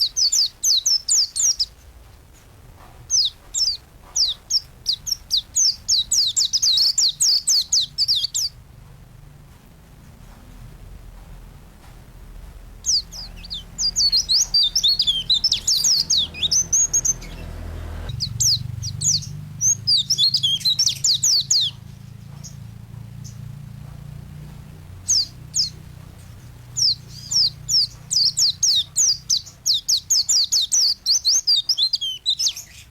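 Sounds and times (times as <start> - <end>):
small bird twittering song: 0.0 - 2.0, 3.0 - 8.6, 12.7 - 32.9
steady low hum: 0.0 - 31.5.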